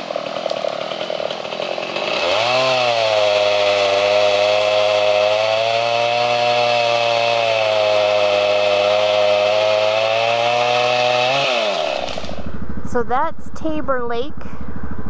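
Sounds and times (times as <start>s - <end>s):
chainsaw cutting wood: 0.0s - 12.6s.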